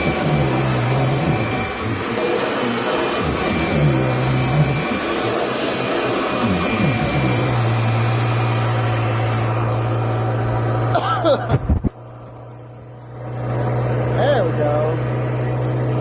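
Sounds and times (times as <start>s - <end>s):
upright vacuum cleaner running: 0.0s - 16.0s.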